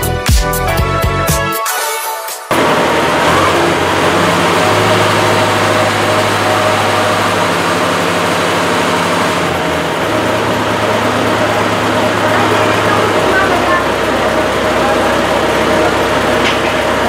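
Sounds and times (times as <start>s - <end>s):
tractor engine running: 2.5s - 17.0s.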